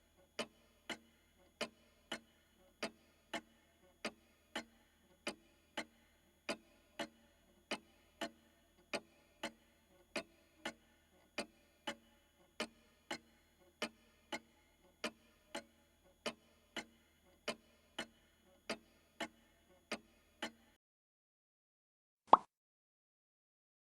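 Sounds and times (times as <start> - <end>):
pendulum clock ticking: 0.0 - 20.8.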